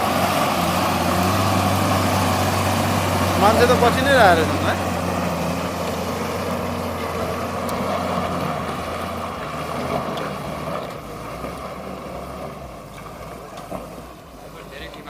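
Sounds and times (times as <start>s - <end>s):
minibus engine humming: 0.0s - 15.0s.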